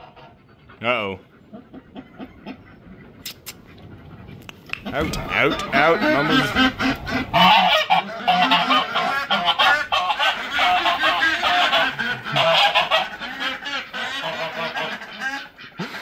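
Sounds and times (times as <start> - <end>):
geese honking: 0.0 - 3.2, 3.9 - 16.0
ducks: 0.0 - 16.0.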